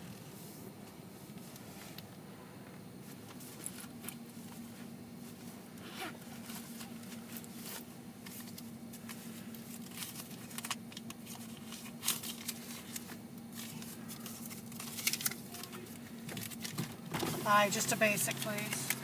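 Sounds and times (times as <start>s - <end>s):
car engine idling hum: 0.0s - 19.0s.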